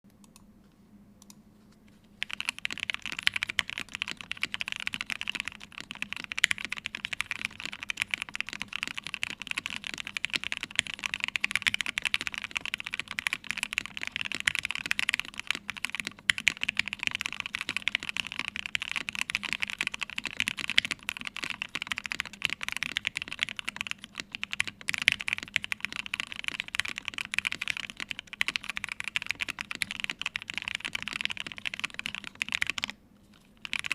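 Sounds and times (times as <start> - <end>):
mechanical keyboard typing: 2.2 - 33.0, 33.6 - 33.9.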